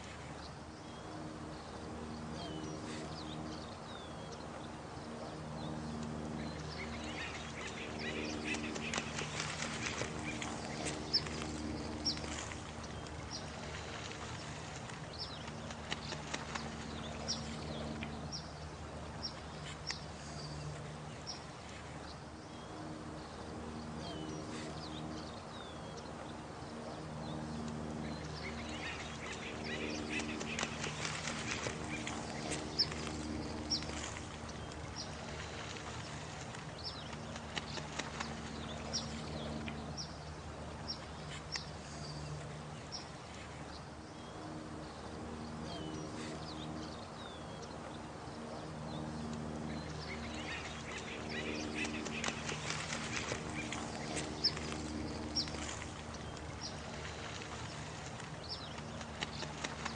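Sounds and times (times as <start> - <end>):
running water: 0.0 - 44.2, 44.9 - 59.9
birds chirping: 0.0 - 59.9
low constant hum: 0.0 - 59.9
steady low drone: 0.0 - 59.9.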